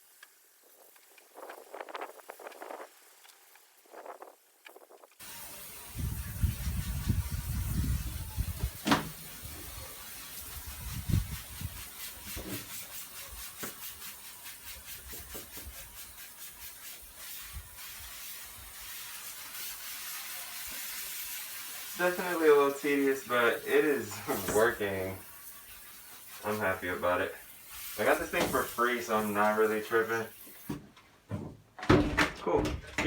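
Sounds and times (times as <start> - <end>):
pressure sprayer hissing spray: 0.0 - 4.0, 5.2 - 30.8.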